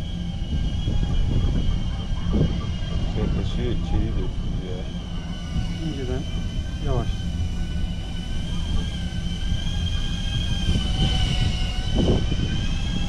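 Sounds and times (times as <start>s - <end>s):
drone propellers whining: 0.0s - 13.0s
low rumble: 0.0s - 13.0s.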